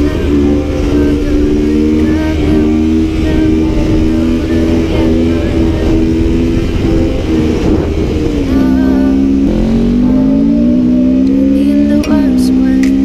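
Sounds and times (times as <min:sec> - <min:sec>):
background music: 0:00.0 - 0:13.0
quad engine running: 0:00.0 - 0:13.0.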